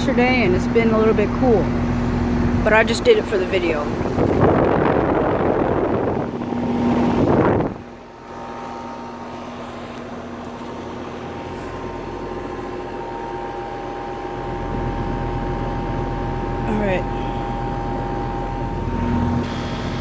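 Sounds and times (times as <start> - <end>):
condensing unit humming: 0.0 - 20.0.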